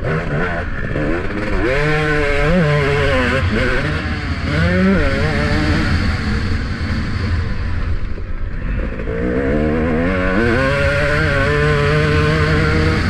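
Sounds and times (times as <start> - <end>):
motorbike engine revving: 0.0 - 13.0
wind rumble: 0.0 - 13.0.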